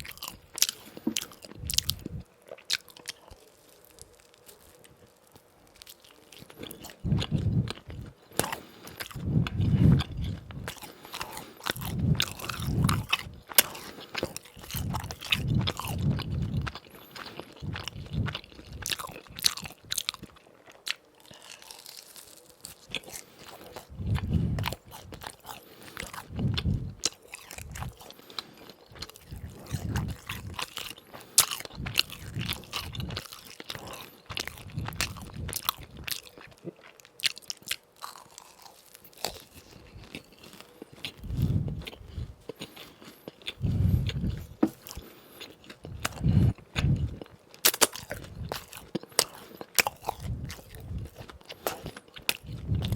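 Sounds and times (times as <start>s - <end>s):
chewing crispy fried food: 0.0s - 52.9s.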